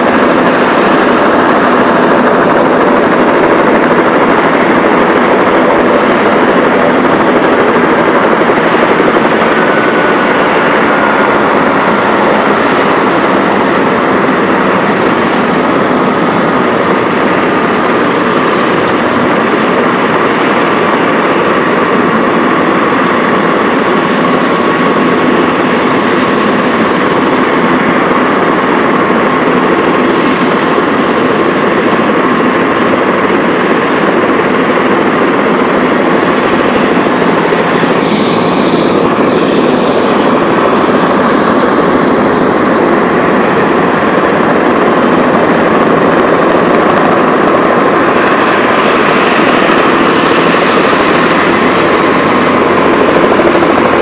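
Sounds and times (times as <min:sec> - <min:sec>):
helicopter rotor and engine noise: 0:00.0 - 0:54.0
high turbine whine: 0:00.0 - 0:54.0.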